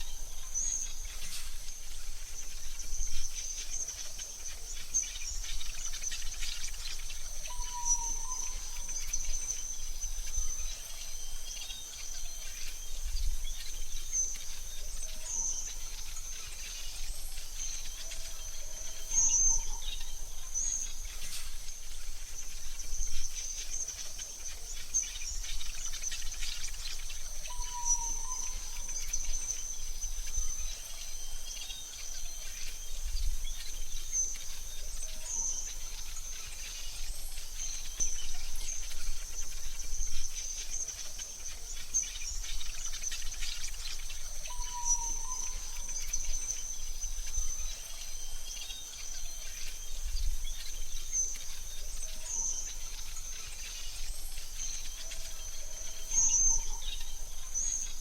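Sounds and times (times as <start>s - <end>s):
bird chirps: 0.0s - 58.0s
high insect drone: 0.0s - 58.0s.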